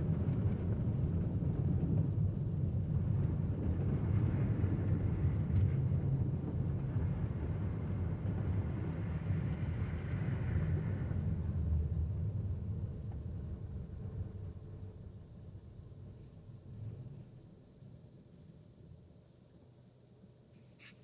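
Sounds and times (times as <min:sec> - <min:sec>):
car engine and tyre rumble: 0:00.1 - 0:19.1.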